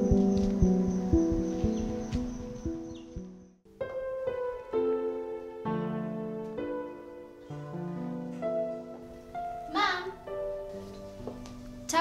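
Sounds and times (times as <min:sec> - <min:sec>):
sustained keyboard notes: 0:00.0 - 0:12.0.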